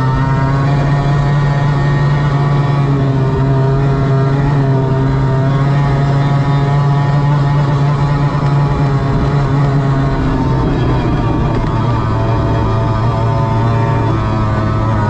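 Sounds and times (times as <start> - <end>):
outboard engine at high pitch: 0.0 - 15.0
wind and water noise: 0.0 - 15.0.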